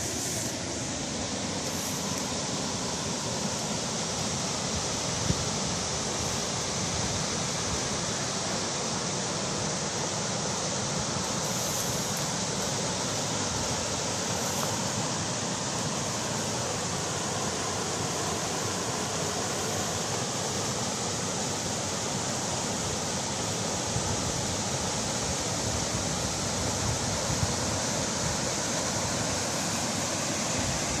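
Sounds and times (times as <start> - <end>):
small waterfall splashing: 0.0 - 31.0.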